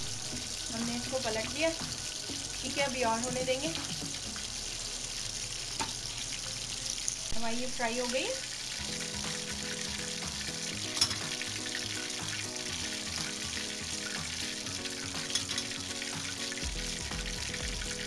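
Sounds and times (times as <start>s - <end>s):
chicken deep-frying in hot oil: 0.0s - 18.0s
soft background music: 0.0s - 18.0s.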